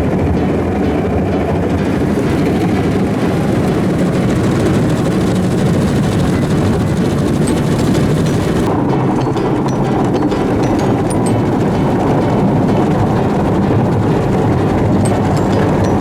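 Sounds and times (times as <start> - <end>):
car wash machinery rumble: 0.0 - 9.0, 11.3 - 16.0.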